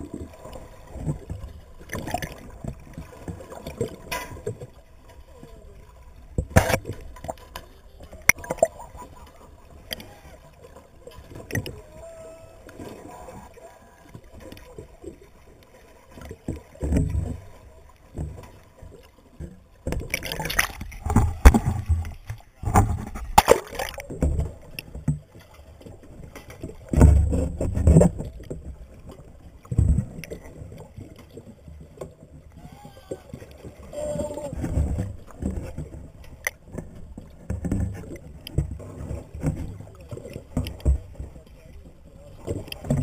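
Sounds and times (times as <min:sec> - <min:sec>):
muffled underwater sloshing: 0:00.0 - 0:43.0
water splashing and rushing: 0:00.0 - 0:43.0.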